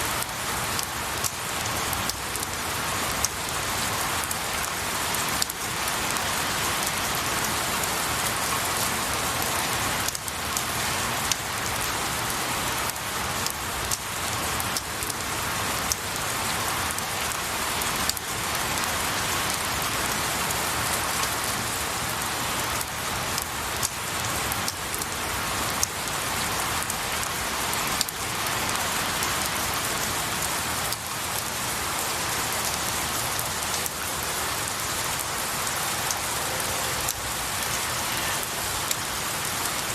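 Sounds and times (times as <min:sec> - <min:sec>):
rain on pine needles: 0:00.0 - 0:39.9.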